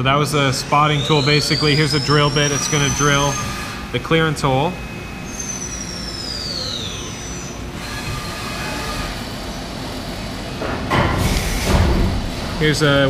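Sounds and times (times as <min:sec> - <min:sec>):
high spindle whine: 0:00.0 - 0:10.7
machine running noise: 0:00.0 - 0:13.0.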